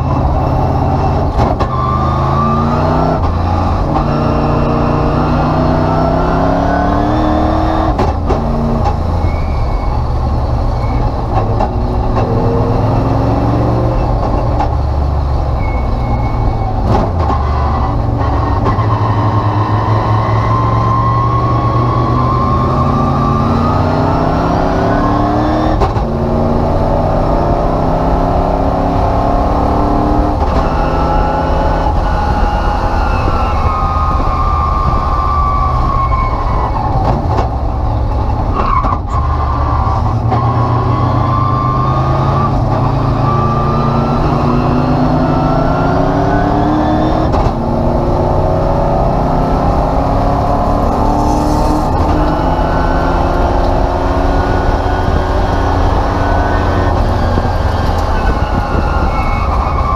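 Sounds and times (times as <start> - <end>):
race car engine accelerating: 0.0 - 59.9
road and wind noise: 0.0 - 59.9.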